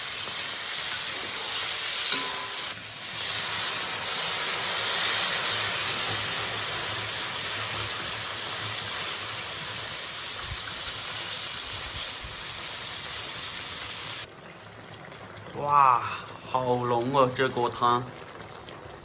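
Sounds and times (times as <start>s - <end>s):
stew sizzling in a wok: 0.0s - 19.0s.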